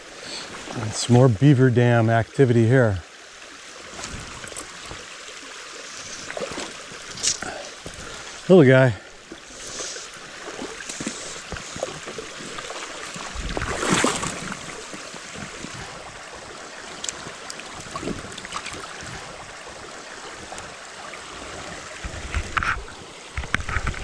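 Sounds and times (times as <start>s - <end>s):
creek flowing: 0.0s - 24.0s.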